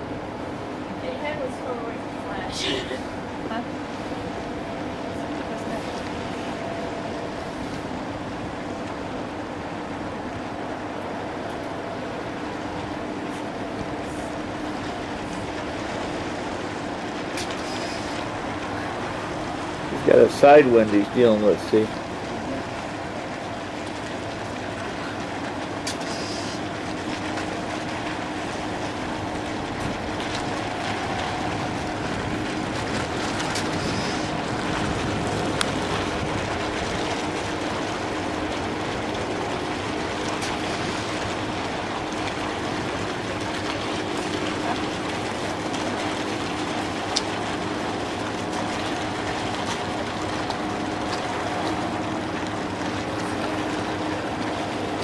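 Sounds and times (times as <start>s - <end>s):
boat diesel engines droning: 0.0s - 55.0s.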